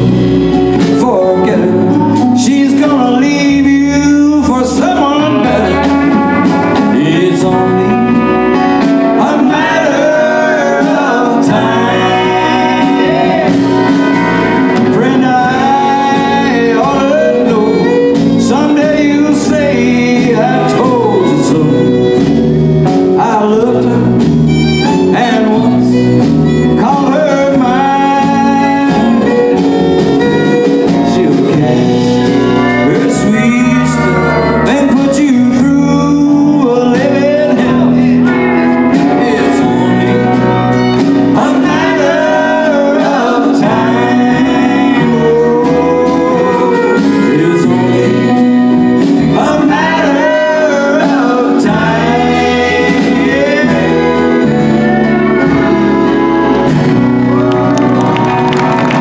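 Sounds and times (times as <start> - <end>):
man singing lead vocal: 0.0 - 56.8
live country band playing: 0.0 - 59.0.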